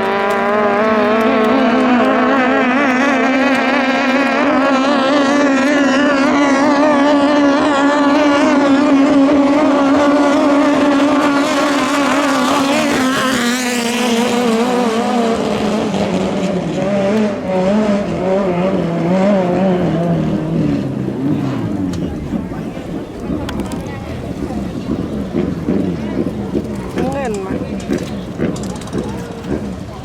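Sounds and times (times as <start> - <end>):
racing boat engines droning: 0.0 - 30.0.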